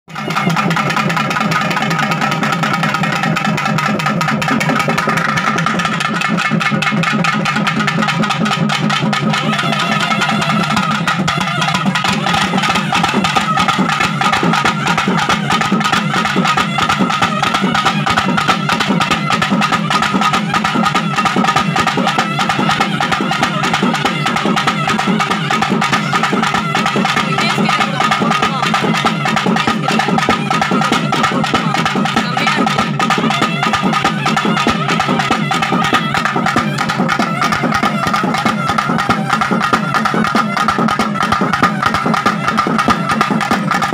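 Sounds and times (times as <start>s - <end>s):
fast dense drumming: 0.1s - 43.9s.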